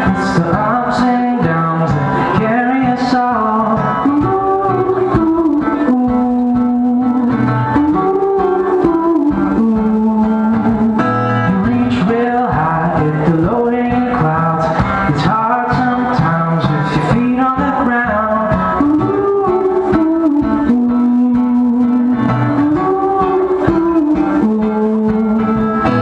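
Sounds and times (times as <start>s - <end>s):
man singing long notes: 0.0s - 26.0s
strummed acoustic guitar: 0.0s - 26.0s.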